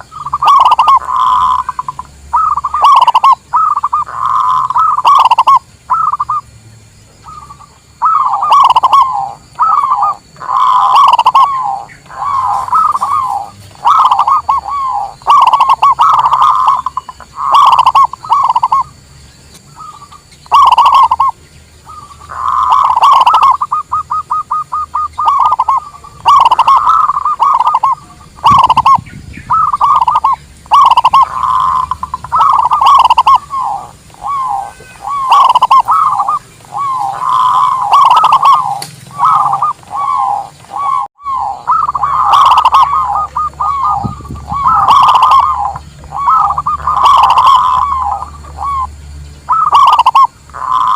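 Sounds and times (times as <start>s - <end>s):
dove cooing: 0.0s - 6.4s, 7.2s - 19.0s, 19.6s - 50.9s.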